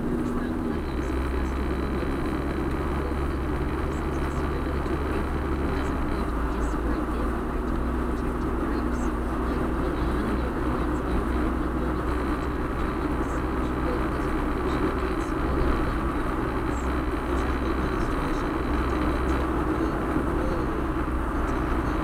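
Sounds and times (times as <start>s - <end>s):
car cabin engine rumble: 0.0s - 22.0s.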